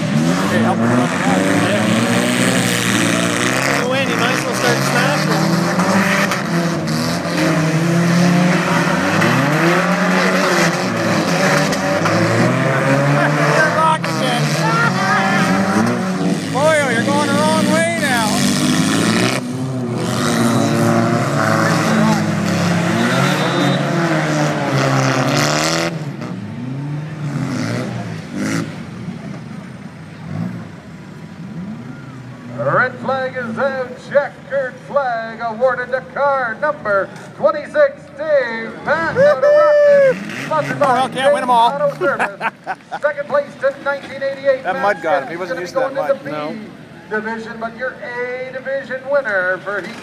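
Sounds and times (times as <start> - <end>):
racing car engines revving: 0.0 - 50.0.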